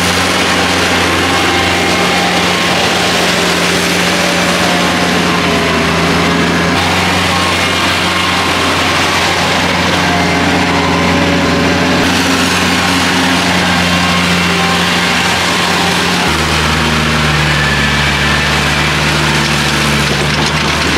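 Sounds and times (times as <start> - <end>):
tractor diesel engine running: 0.0 - 20.9
wheels churning through mud: 0.0 - 20.9.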